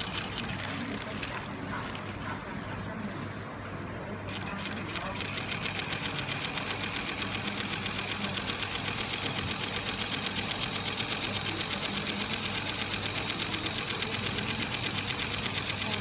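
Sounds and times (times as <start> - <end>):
sewing machine stitching: 0.0 - 2.4, 4.3 - 16.0.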